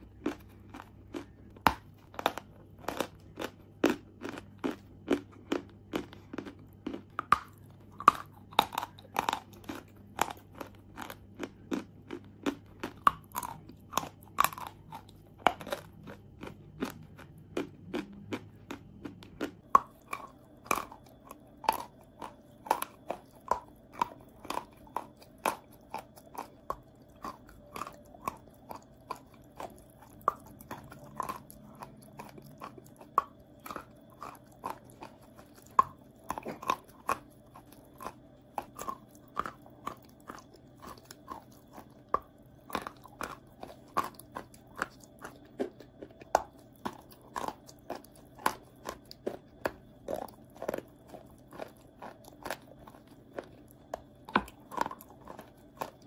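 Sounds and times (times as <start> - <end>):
chalk being chewed: 0.1 - 56.0.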